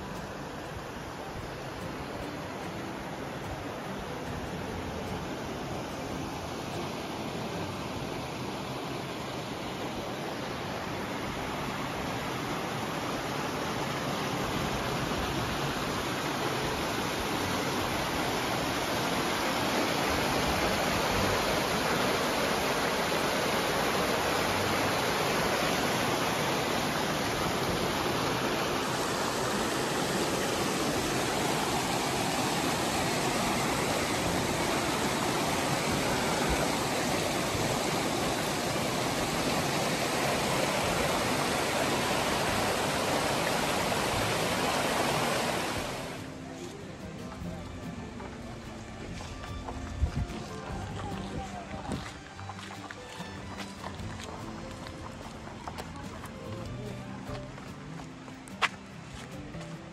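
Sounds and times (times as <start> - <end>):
creek rushing over rocks: 0.0 - 59.9.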